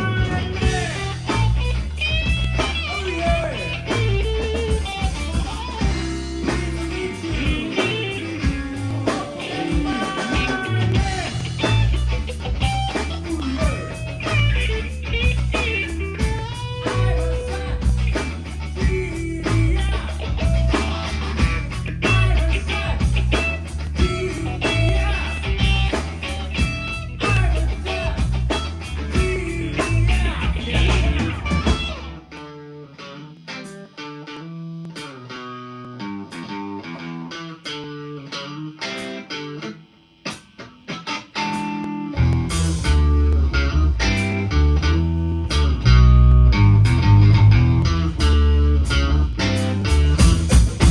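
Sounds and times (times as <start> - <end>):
bass guitar: 0.0 - 50.9
drums: 0.0 - 50.9
electric guitar lead: 0.0 - 50.9.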